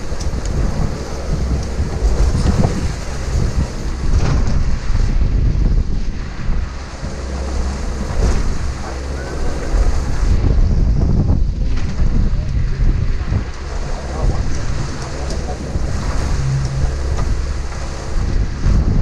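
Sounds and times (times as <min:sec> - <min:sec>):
choppy sea against boat hull: 0:00.0 - 0:19.0
wind buffeting microphone: 0:00.0 - 0:19.0.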